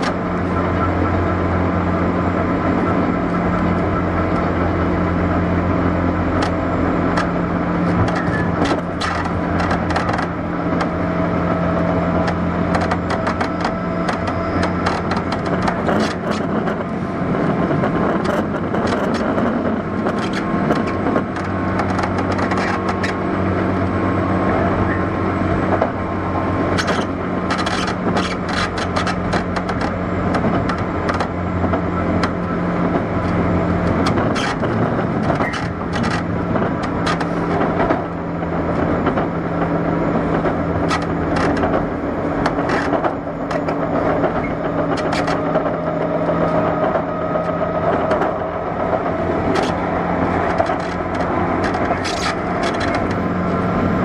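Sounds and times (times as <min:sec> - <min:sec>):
train motor and gear hum: 0:00.0 - 0:54.0
wheels rumbling on rail: 0:00.0 - 0:54.0
clicks and knocks from track: 0:06.3 - 0:24.0, 0:24.9 - 0:54.0.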